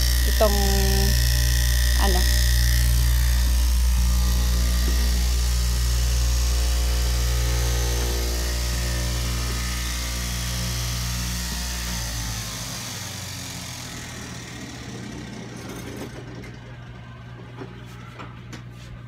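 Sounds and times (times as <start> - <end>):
cloth cutting machine humming: 0.0 - 17.8.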